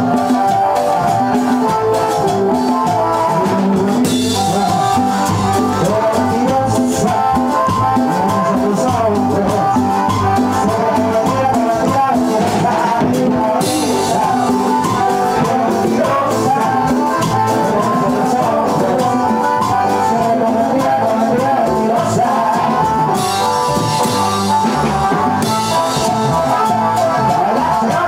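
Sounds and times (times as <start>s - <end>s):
congas: 0.0s - 28.0s
drum kit: 0.0s - 28.0s
electric bass: 0.0s - 28.0s
keyboard: 0.0s - 28.0s
person singing: 0.0s - 28.0s.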